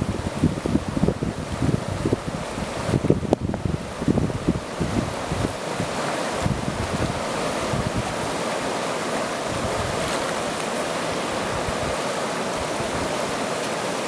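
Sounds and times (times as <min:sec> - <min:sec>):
wind buffeting microphone: 0:00.0 - 0:13.5
river rushing over rocks: 0:00.0 - 0:14.0.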